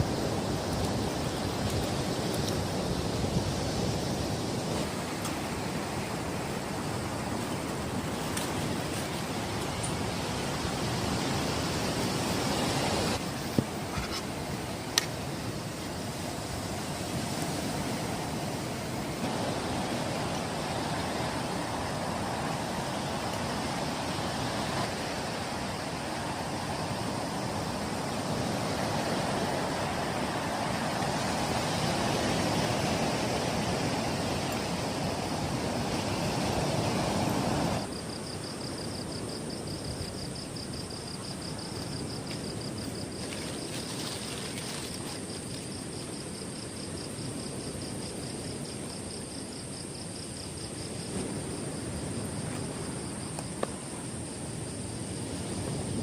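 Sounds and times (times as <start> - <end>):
night insects trilling: 0.0 - 56.0
strong wind: 0.0 - 56.0.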